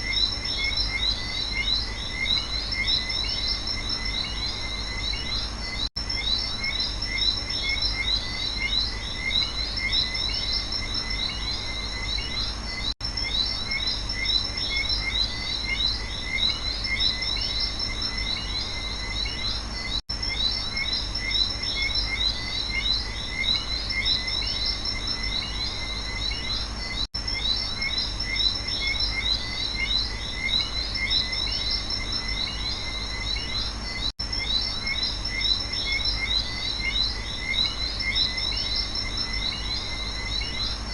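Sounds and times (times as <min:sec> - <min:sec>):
frogs and insects chirping: 0:00.0 - 0:40.9
high insect drone: 0:00.0 - 0:40.9.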